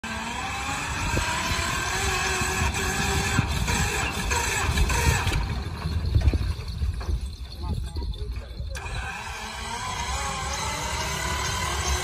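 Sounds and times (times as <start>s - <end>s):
thresher whining: 0.0s - 12.0s
diesel engine chugging: 0.2s - 12.0s.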